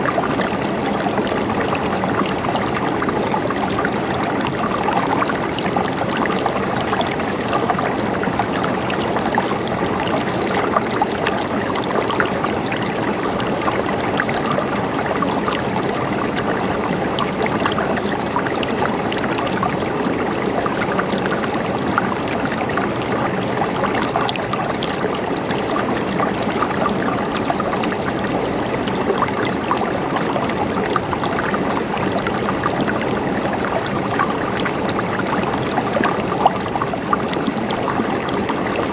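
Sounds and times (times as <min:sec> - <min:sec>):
small stream running: 0:00.0 - 0:38.9.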